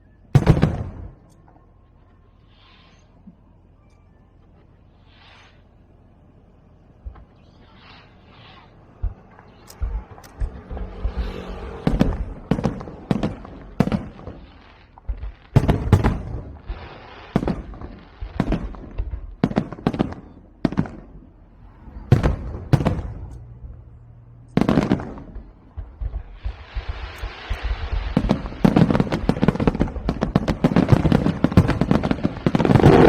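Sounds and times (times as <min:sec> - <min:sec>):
fireworks bangs with echo: 0:00.3 - 0:01.6, 0:07.0 - 0:23.9, 0:24.5 - 0:33.0.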